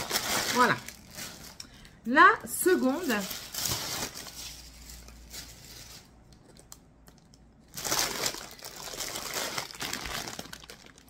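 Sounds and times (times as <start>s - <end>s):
plastic wrapping crinkling: 0.0s - 1.9s, 2.6s - 11.0s.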